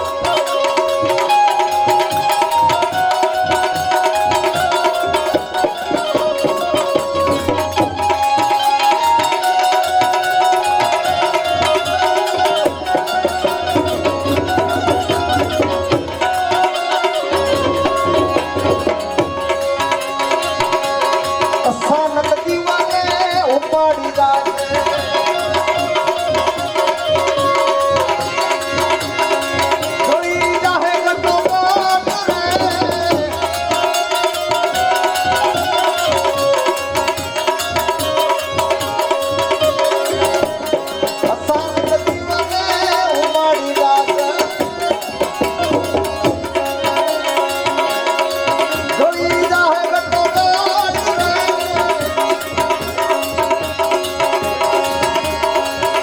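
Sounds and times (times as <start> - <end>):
sustained melodic accompaniment: 0.0 - 56.0
tabla drumming: 0.0 - 56.0.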